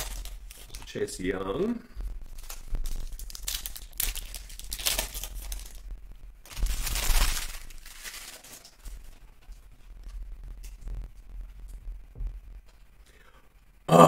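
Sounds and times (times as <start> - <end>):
foil wrappers crinkling and tearing: 0.0 - 11.8.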